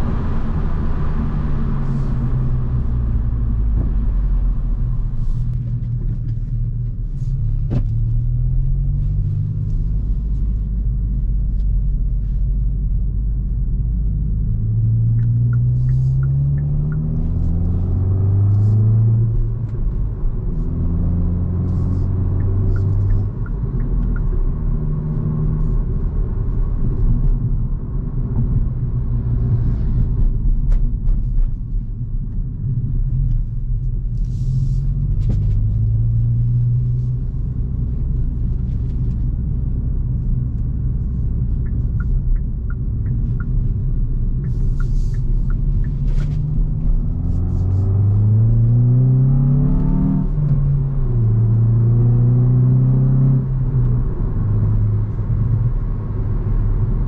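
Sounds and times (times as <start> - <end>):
car engine accelerating through gears: 0.0 - 31.4, 32.7 - 57.0
road noise rumble: 0.0 - 57.0.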